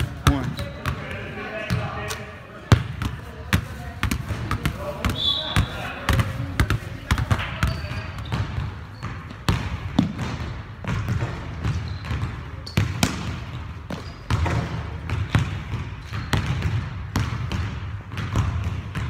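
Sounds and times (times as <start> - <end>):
basketballs bouncing on wooden floor: 0.0 - 2.1, 2.7 - 19.0.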